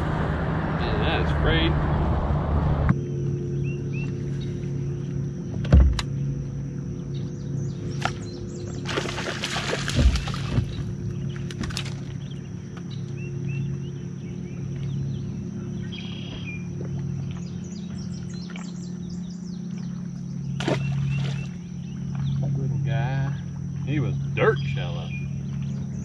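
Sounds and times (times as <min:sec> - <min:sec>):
steady low hum: 0:00.0 - 0:26.0
small birds chirping: 0:03.5 - 0:26.0.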